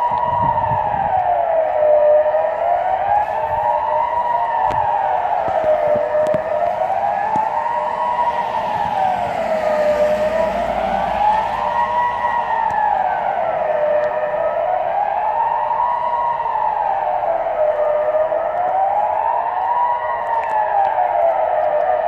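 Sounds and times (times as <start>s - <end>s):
wailing siren: 0.0s - 22.0s.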